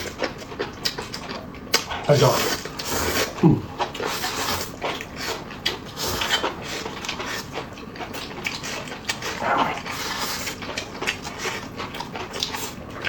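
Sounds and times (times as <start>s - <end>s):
chewing and mouth smacks: 0.0s - 13.0s.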